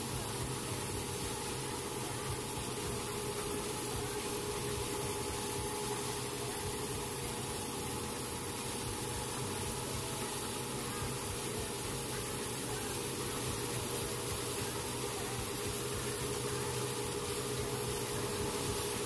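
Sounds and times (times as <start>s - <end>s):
constant machine tone: 0.0s - 19.0s
harvester machine drone: 0.0s - 19.0s.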